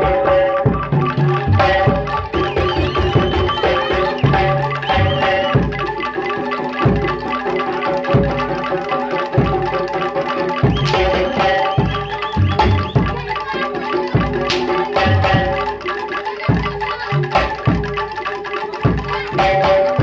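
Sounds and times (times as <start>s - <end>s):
hand drums beating: 0.0s - 20.0s
high wavering melody: 0.0s - 20.0s.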